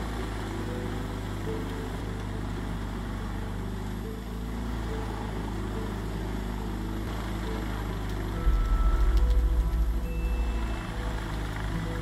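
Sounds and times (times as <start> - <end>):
wood chipper engine drone: 0.0 - 12.0.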